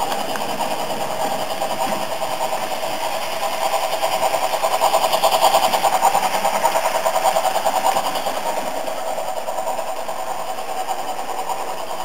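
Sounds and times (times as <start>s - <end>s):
model locomotive steam chuffing: 0.0s - 12.0s.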